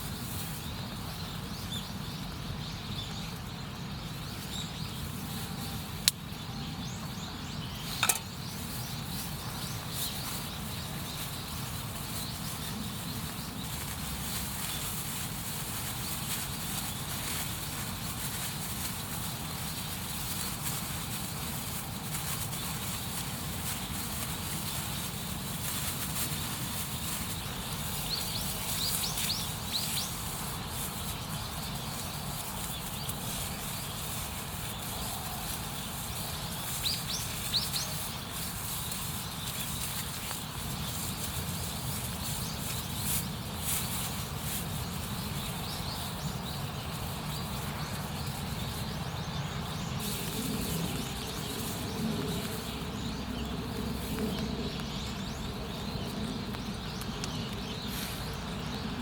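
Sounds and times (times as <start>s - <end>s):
outdoor background rumble and hiss: 0.0s - 59.0s
small birds chirping: 0.0s - 59.0s.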